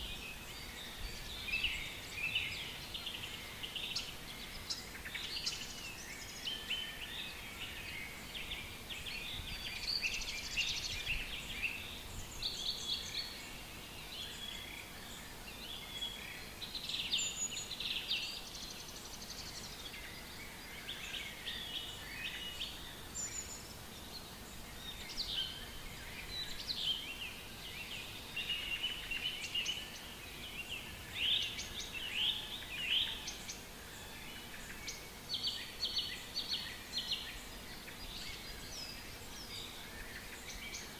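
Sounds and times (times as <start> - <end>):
faint low background noise: 0.0 - 40.9
songbirds singing: 0.0 - 40.9.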